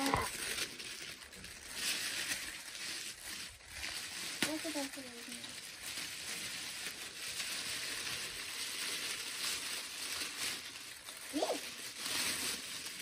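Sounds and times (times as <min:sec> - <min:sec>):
gift wrap crinkling and tearing: 0:00.0 - 0:13.0.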